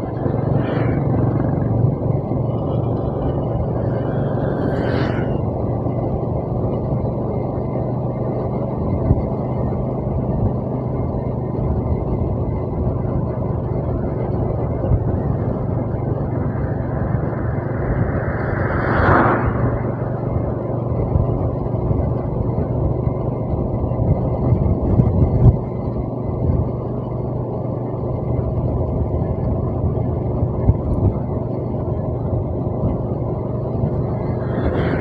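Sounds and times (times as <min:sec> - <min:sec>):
road and wind noise: 0:00.0 - 0:35.0
vehicle engine running: 0:00.0 - 0:35.0.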